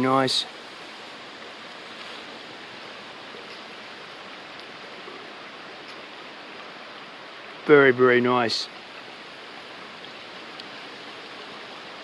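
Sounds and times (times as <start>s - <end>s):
waterfall and creek rushing: 0.0s - 12.0s.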